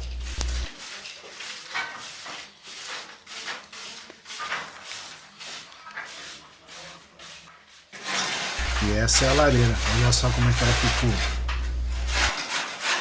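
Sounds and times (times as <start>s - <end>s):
broom sweeping a floor: 0.0s - 13.0s.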